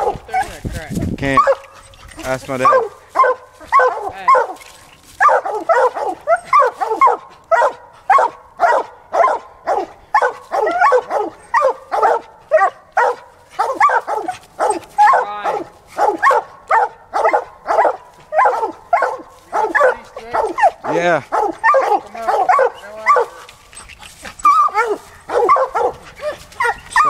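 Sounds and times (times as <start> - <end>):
dog barking rapidly: 0.0 - 0.6, 1.3 - 23.6, 24.4 - 27.0.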